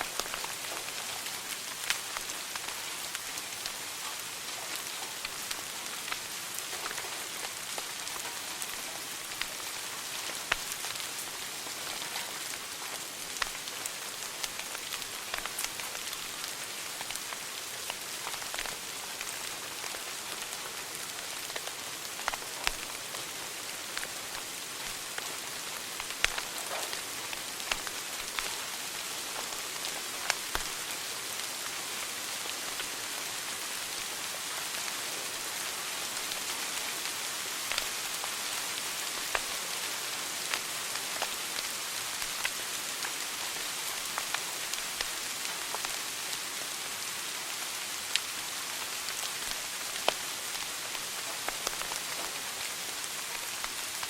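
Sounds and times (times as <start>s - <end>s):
wood fire crackling: 0.0s - 34.5s, 36.2s - 39.7s, 40.3s - 46.6s, 47.9s - 54.0s.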